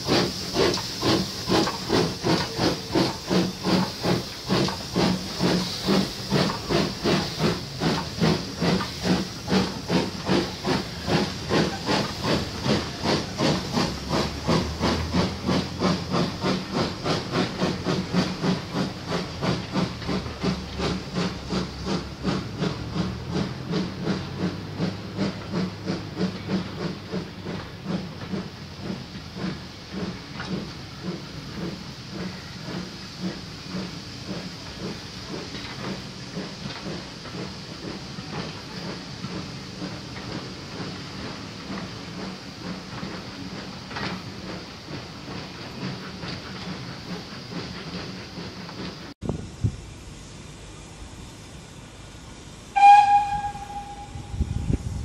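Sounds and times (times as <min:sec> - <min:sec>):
steam hiss: 0:00.0 - 0:55.0
steam locomotive chuffing: 0:00.0 - 0:55.0.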